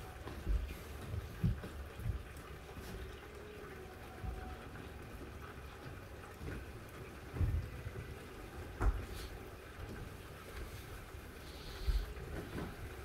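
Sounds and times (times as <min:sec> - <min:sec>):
rain through a closed window: 0:00.0 - 0:13.0.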